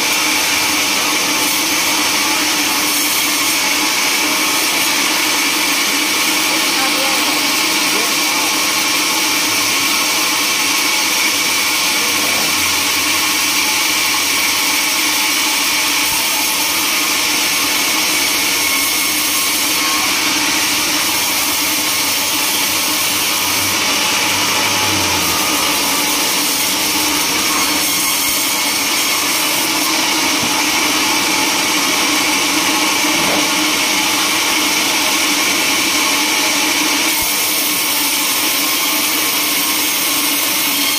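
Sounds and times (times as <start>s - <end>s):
sawmill drive running: 0.0s - 40.8s
saw blade whining through wood: 0.0s - 40.9s.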